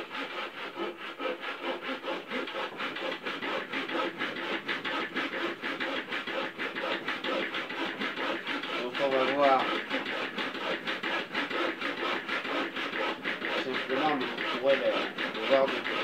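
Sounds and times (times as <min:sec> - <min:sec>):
hand saw cutting wood: 0:00.0 - 0:16.0.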